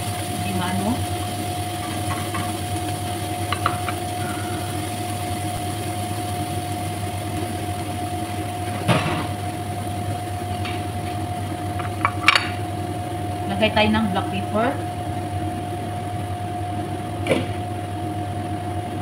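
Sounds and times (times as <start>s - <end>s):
machine drone with whine: 0.0s - 19.0s.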